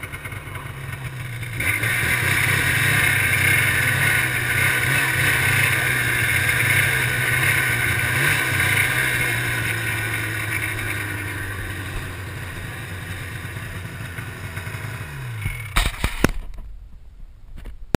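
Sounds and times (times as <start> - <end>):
snowmobile engine running: 0.0 - 16.4.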